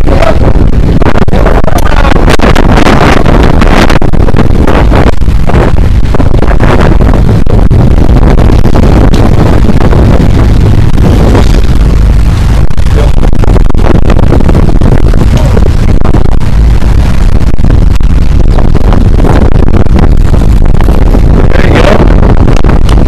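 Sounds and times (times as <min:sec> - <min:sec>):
motorboat engines running: 0:00.0 - 0:23.0
wind buffeting microphone: 0:00.0 - 0:23.0.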